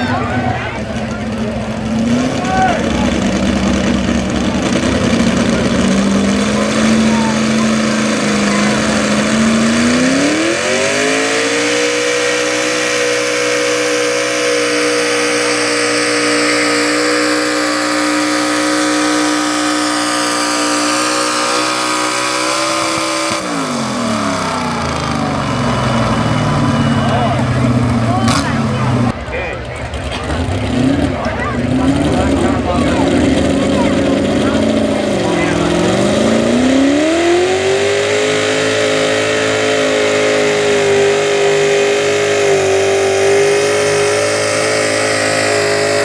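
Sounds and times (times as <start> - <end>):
truck engine at full throttle: 0.0 - 46.0.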